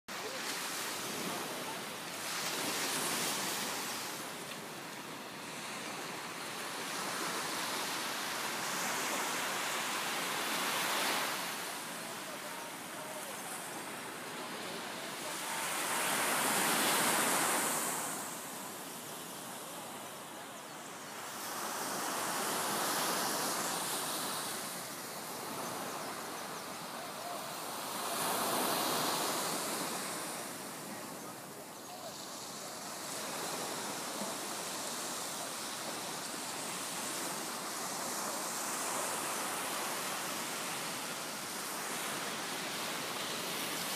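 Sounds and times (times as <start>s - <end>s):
small waves breaking on beach: 0.1s - 43.9s.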